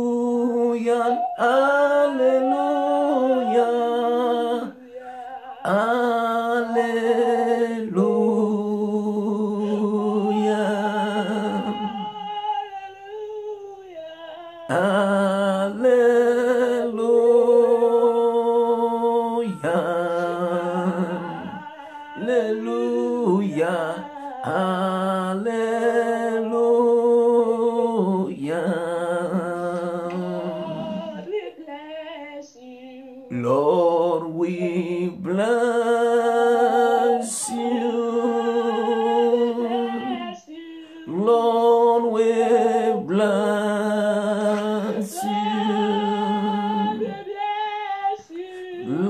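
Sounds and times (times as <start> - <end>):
person singing unaccompanied chant: 0.0 - 49.0.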